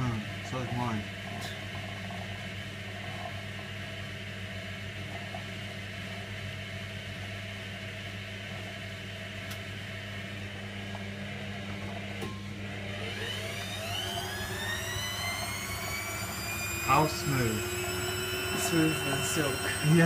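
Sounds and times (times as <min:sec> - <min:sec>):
washing machine humming: 0:00.0 - 0:20.0.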